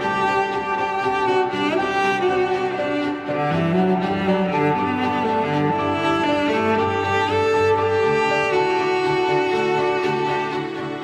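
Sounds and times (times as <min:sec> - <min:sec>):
bowed strings holding slow notes: 0:00.0 - 0:11.0
low cello-like line: 0:00.0 - 0:11.0.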